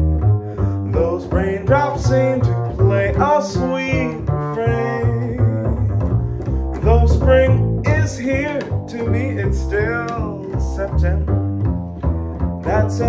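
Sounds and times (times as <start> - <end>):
double bass plucked walking line: 0.0 - 13.0
man singing: 0.8 - 11.3, 12.6 - 13.0.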